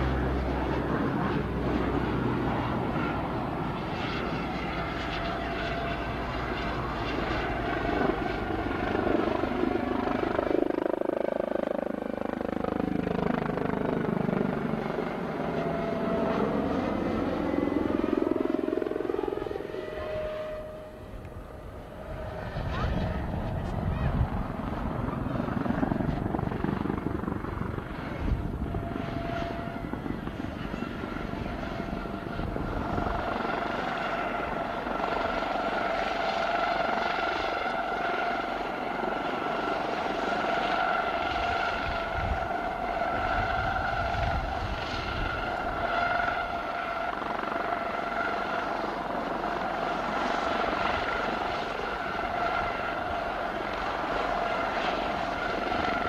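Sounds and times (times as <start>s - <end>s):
helicopter rotor and turbine noise: 0.0s - 56.0s.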